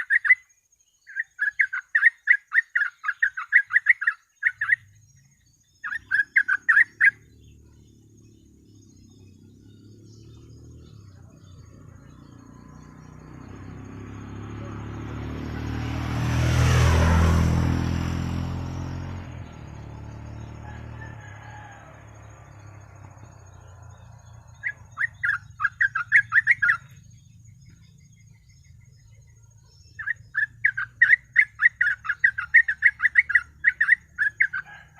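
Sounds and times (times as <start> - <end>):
bird singing: 0.0 - 34.9
motor vehicle passing: 4.4 - 34.9.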